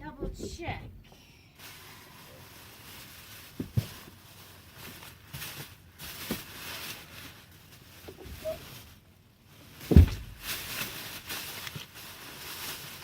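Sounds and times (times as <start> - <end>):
rustling: 1.6 - 13.0.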